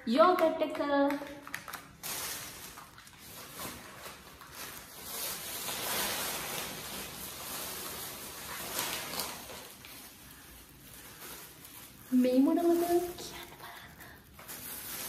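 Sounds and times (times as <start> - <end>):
plastic bags rustling: 0.9 - 15.0.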